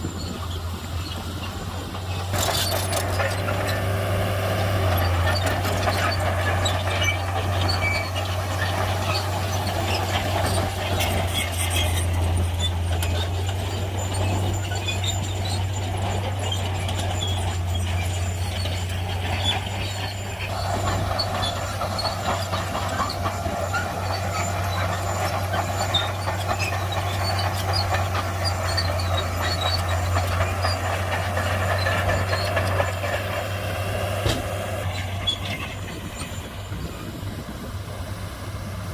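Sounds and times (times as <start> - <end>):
bulldozer diesel engine running: 0.0 - 38.9
metallic clanks from tracks: 4.8 - 37.6.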